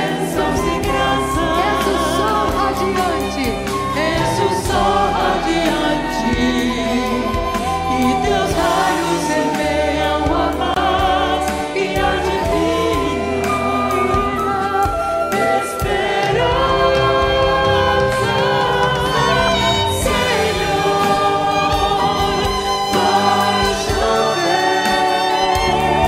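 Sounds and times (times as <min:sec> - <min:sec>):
choir singing: 0:00.0 - 0:26.0
guitar accompaniment: 0:00.0 - 0:26.0.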